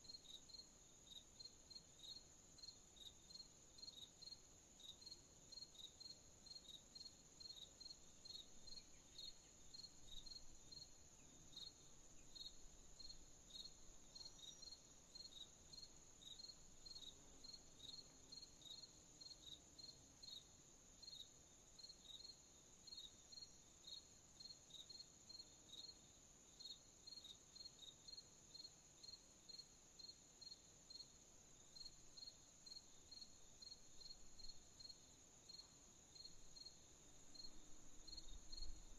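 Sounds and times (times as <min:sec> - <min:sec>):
crickets chirping: 0:00.0 - 0:38.9
faint hiss: 0:00.0 - 0:38.9
insect trill: 0:00.0 - 0:38.9.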